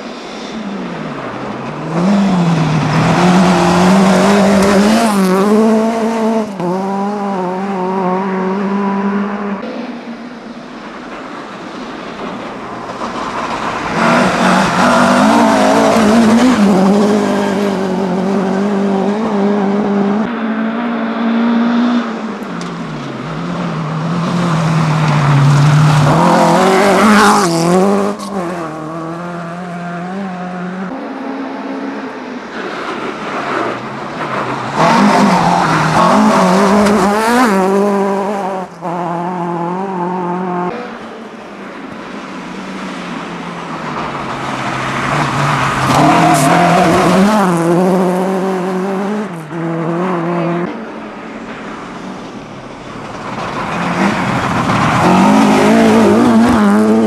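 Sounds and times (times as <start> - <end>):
rally cars revving past: 0.1 - 57.0.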